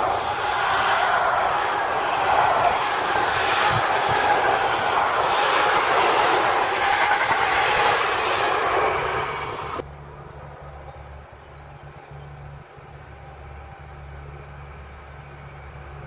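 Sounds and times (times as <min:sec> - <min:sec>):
train rolling over rails: 0:00.0 - 0:16.0.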